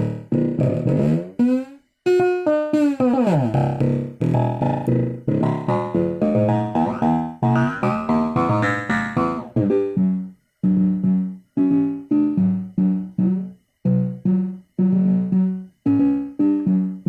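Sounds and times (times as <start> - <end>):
instrumental riff of short notes: 0.0 - 17.0.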